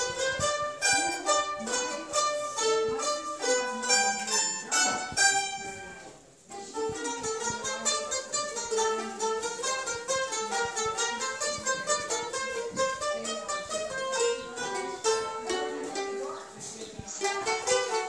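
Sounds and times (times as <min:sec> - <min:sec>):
children playing mandolins: 0:00.0 - 0:18.0.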